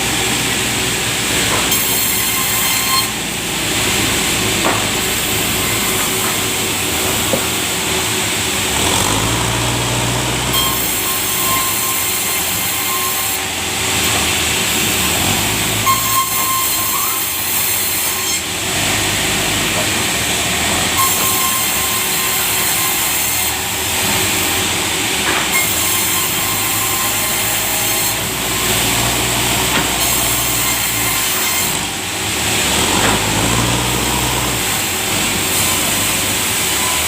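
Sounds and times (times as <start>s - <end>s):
sawmill saw cutting log: 0.0s - 37.0s.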